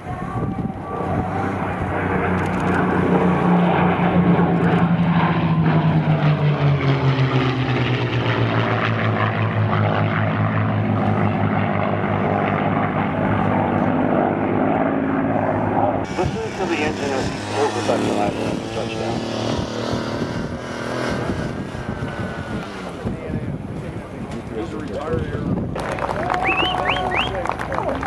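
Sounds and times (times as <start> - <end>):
propeller plane engine passing: 0.0 - 28.0.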